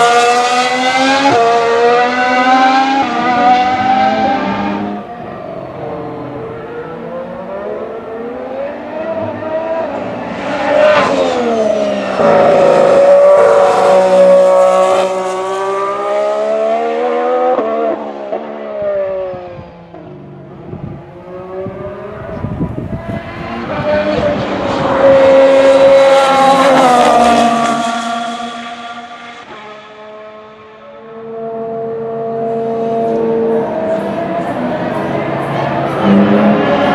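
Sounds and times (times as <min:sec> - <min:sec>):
car braking and downshifting: 0:00.0 - 0:36.9
race cars passing at speed: 0:00.0 - 0:36.9.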